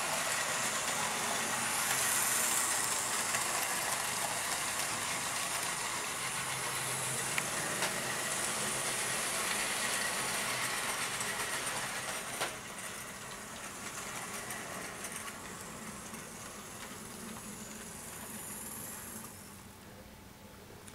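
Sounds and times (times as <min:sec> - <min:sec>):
model train whirring and rattling: 0:00.0 - 0:19.7.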